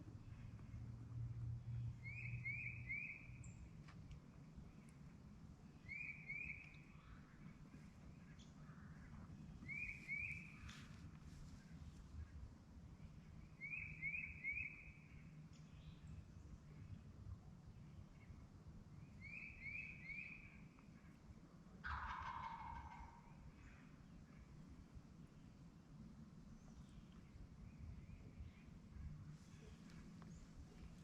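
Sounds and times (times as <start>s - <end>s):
faint woodland ambience: 0.0s - 31.0s
songbird singing: 0.0s - 31.0s.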